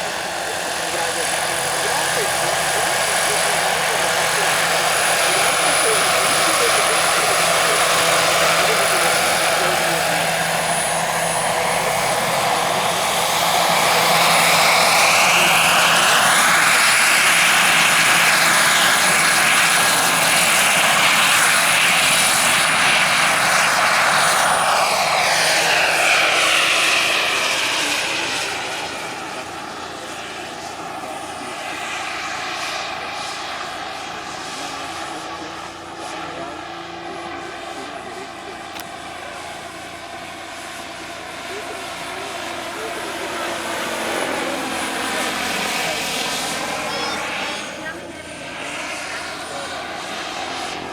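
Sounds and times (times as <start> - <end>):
helicopter rotor noise: 0.0 - 50.9
model helicopter turbine whine: 0.0 - 50.9.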